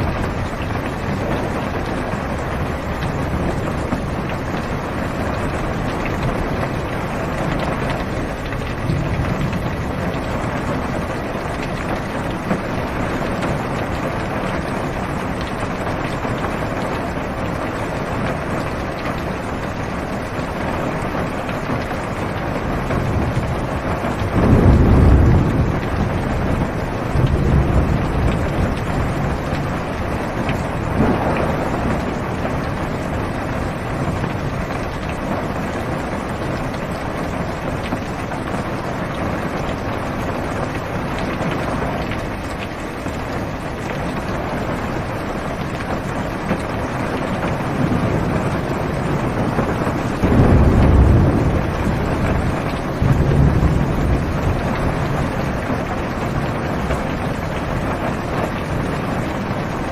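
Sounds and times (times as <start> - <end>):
heavy rain on a car roof: 0.0 - 59.9
thunder rumble: 0.0 - 59.9.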